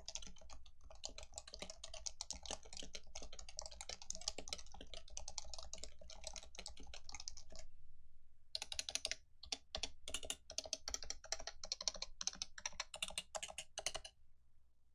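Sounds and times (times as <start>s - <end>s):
keyboard typing: 0.0s - 7.6s, 8.6s - 14.1s.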